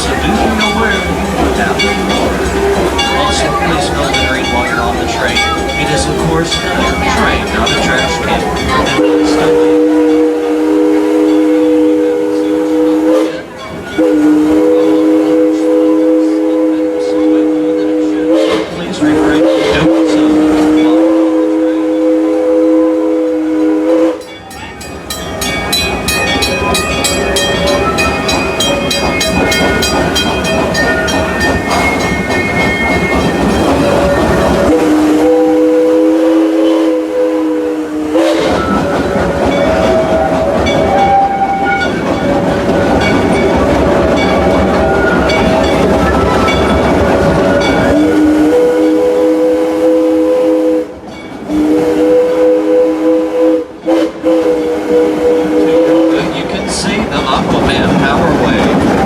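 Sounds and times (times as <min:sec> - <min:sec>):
steam locomotive chime whistle: 0:00.0 - 0:59.0
train rumbling: 0:00.0 - 0:59.0.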